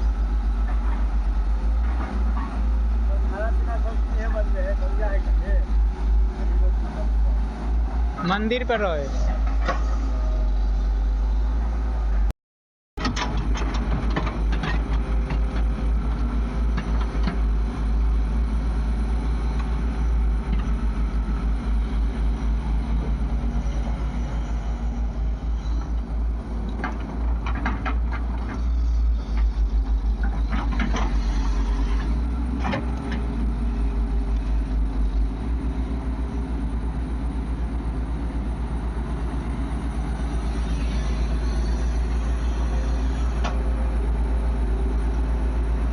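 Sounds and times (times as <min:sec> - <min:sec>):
engine knocks and clatter: 0:00.0 - 0:12.3, 0:13.0 - 0:45.9
heavy diesel engine throbbing: 0:00.0 - 0:12.3, 0:13.1 - 0:45.9.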